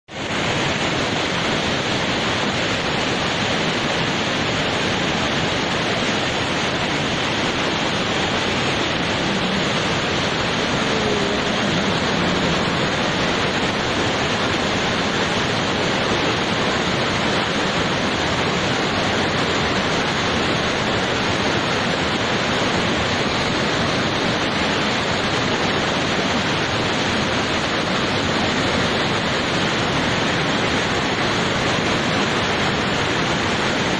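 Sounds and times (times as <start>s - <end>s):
flood water rushing: 0.1s - 33.9s.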